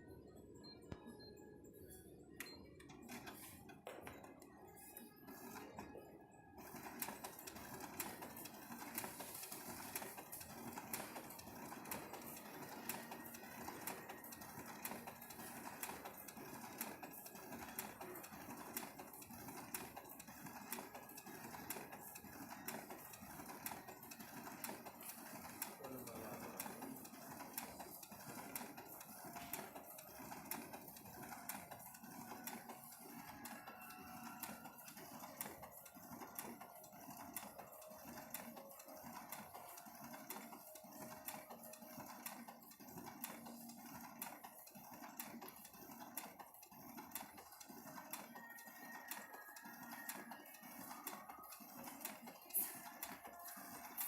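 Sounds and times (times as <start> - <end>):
machine running with rapid clicking: 2.4 - 6.0, 6.6 - 54.0.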